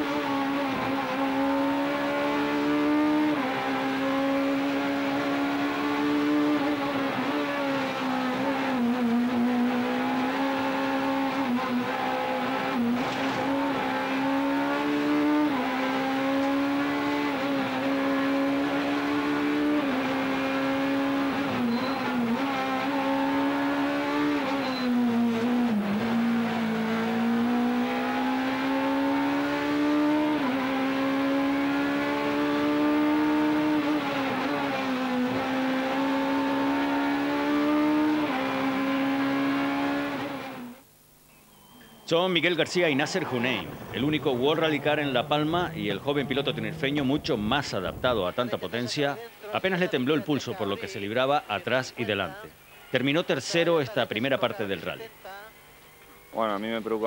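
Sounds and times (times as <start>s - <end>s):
rally car engine revving: 0.0s - 40.8s, 42.5s - 48.9s.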